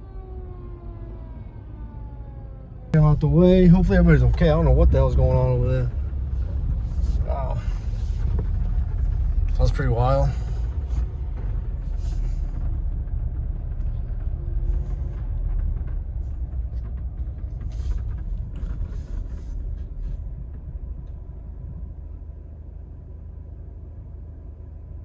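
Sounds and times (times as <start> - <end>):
vehicle driving rumble: 0.0 - 25.0.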